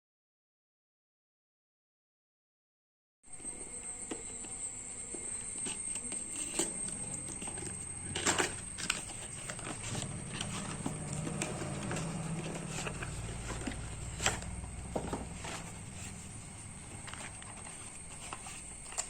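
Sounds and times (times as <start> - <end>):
high-pitched whine: 3.3 - 19.0
low hum: 3.3 - 19.0.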